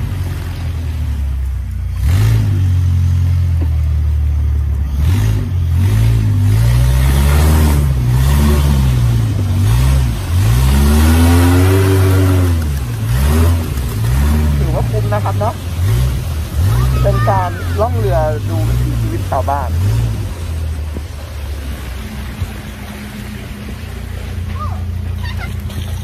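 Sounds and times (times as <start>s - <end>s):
boat engine revving: 0.0s - 26.0s.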